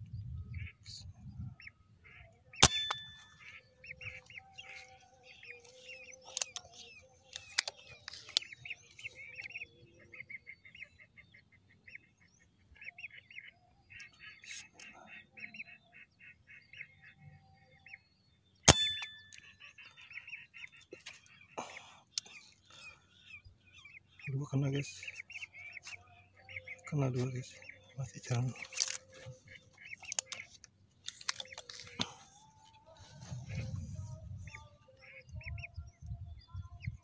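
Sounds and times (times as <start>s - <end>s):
ducks whistling: 1.5s - 18.0s, 18.6s - 37.0s.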